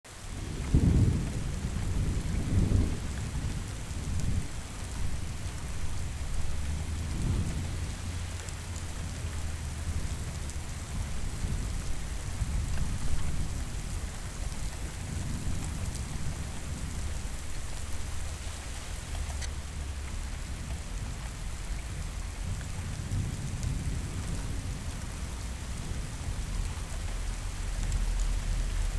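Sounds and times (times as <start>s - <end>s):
steady rain: 0.0s - 28.9s
thunder rumbling: 0.2s - 28.9s.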